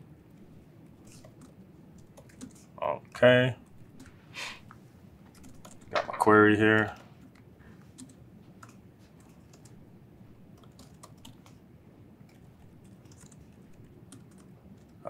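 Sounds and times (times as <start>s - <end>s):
laptop keyboard typing: 0.2s - 2.8s, 5.2s - 15.0s.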